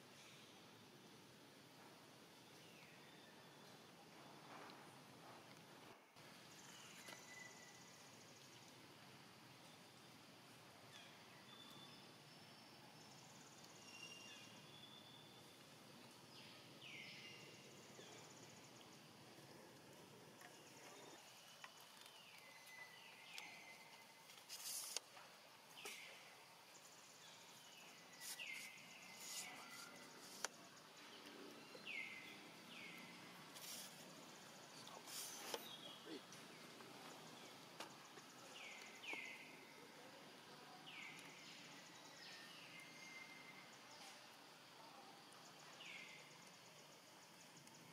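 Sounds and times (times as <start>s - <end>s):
faint outdoor background noise: 0.0s - 47.9s.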